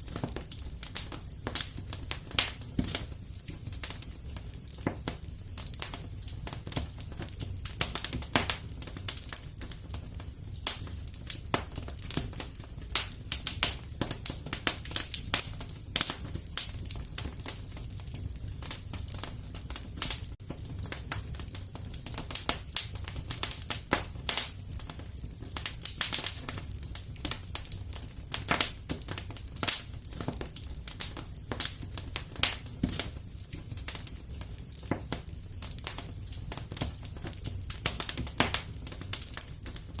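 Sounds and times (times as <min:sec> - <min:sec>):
low fire rumble: 0:00.0 - 0:40.0
wood fire crackling and popping: 0:00.0 - 0:40.0.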